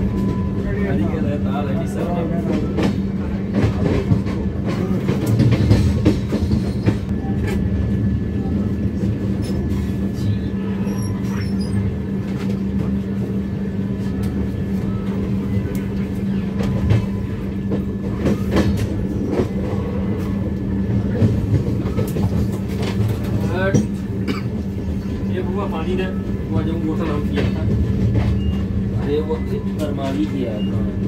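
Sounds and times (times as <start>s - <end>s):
train rumbling at speed: 0.0s - 31.0s
constant hum: 2.5s - 31.0s.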